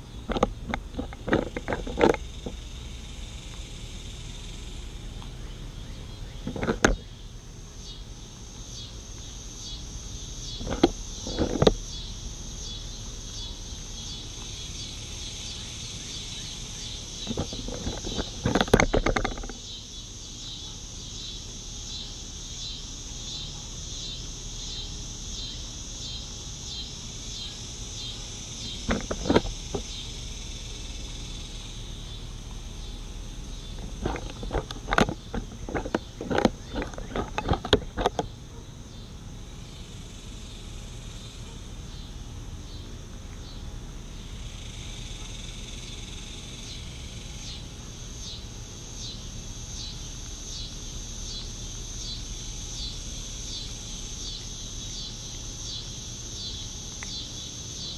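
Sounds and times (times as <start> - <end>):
pulsing insect chorus: 0.0 - 57.9.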